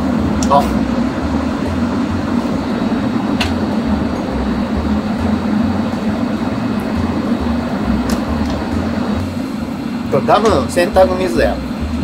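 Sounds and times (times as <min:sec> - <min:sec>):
low uneven throb: 0:00.0 - 0:12.0
ventilation fans humming: 0:00.0 - 0:12.0.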